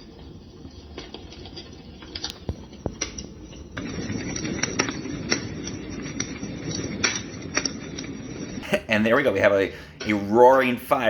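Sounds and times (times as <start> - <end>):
fire crackling on speaker: 0.0 - 11.0.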